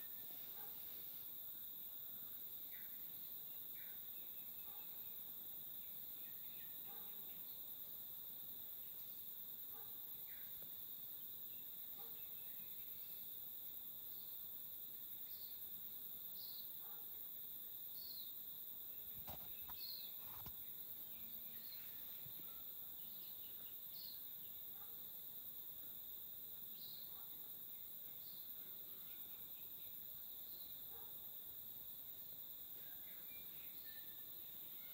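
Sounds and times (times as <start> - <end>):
insect chirps: 0.0 - 34.9.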